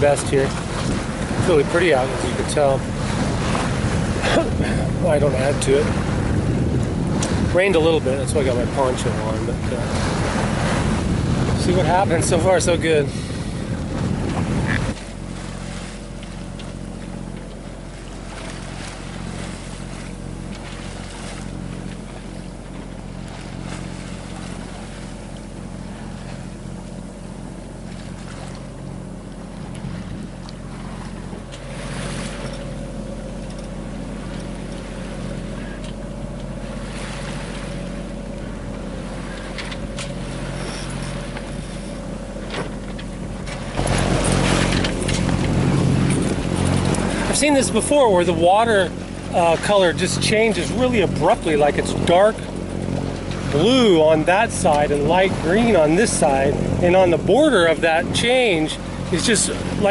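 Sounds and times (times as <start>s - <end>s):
boat diesel engine running: 0.0s - 59.9s
waves washing along hull: 0.0s - 59.9s.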